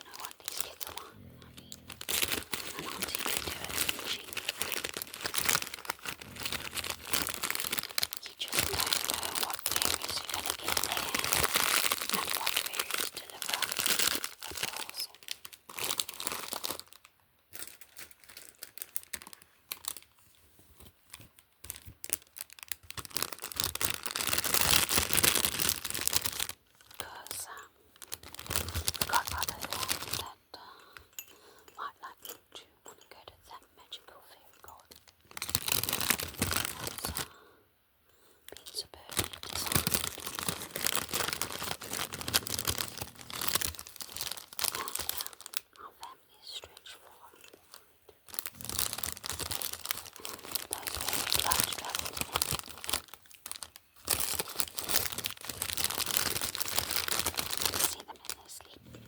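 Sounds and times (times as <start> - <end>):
plastic packaging crinkling: 0.0 - 30.3, 34.7 - 37.4, 38.5 - 58.8.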